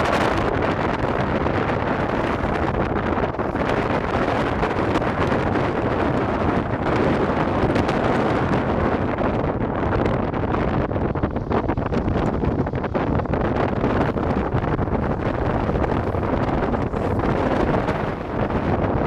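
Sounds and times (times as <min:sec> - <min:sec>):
outboard motors droning: 0:00.0 - 0:09.7, 0:13.2 - 0:19.0
wind buffeting microphone: 0:00.0 - 0:19.0.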